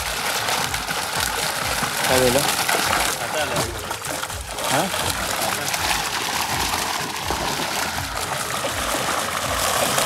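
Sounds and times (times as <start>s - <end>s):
seawater splashing and trickling: 0.0s - 10.0s.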